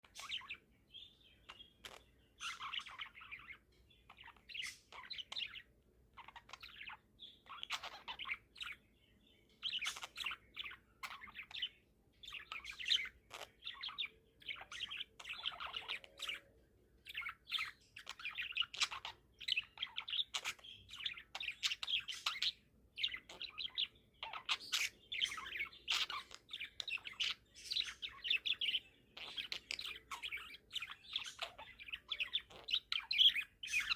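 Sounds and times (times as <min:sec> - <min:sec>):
budgie chirping and chattering: 0:00.0 - 0:00.6, 0:01.4 - 0:08.8, 0:09.6 - 0:33.9.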